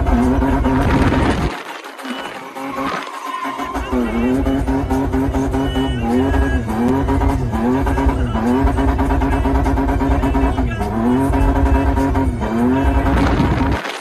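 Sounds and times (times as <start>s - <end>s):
car engine at high revs: 0.0s - 3.0s, 3.6s - 14.0s.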